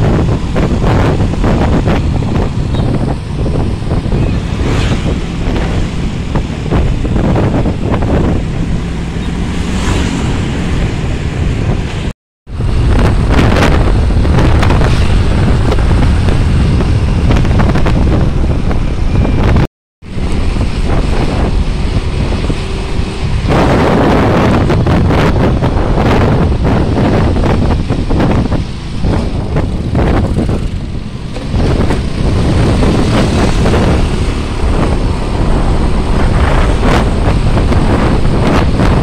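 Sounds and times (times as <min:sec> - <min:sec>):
motorcycle engine: 0:00.0 - 0:39.0
road noise: 0:00.0 - 0:39.0
wind buffeting microphone: 0:00.0 - 0:39.0.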